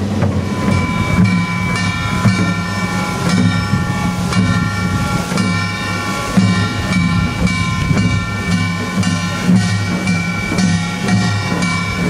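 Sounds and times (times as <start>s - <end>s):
barrel drums thumping: 0.0s - 12.0s.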